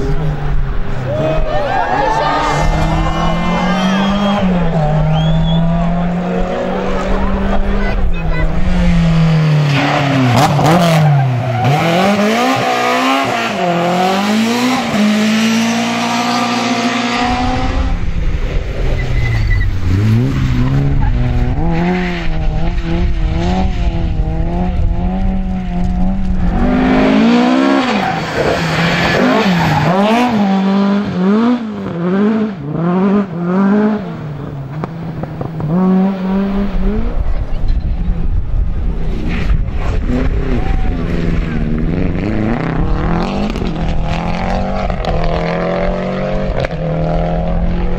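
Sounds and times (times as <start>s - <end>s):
rally car engines revving: 0.0s - 47.9s.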